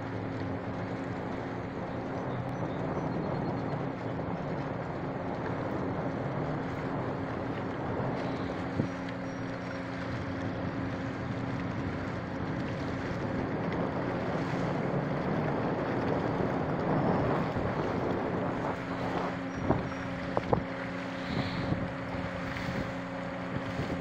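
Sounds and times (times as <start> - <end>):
boat engine humming: 0.0 - 24.0
wind on microphone: 0.0 - 24.0.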